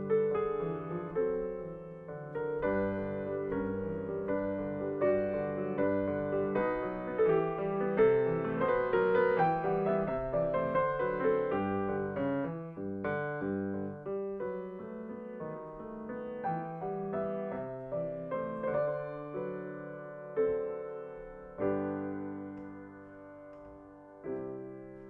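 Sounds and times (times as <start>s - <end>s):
classical grand piano: 0.0s - 25.0s.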